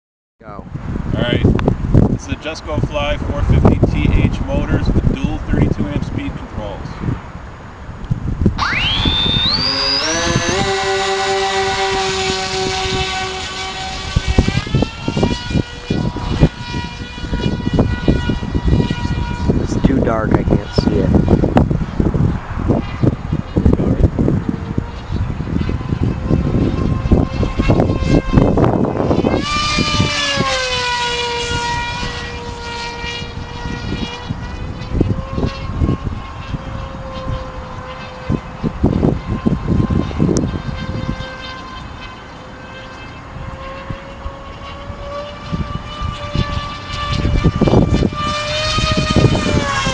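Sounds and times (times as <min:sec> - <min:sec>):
wind buffeting microphone: 0:00.4 - 0:49.9
electric motors whining: 0:08.0 - 0:49.9.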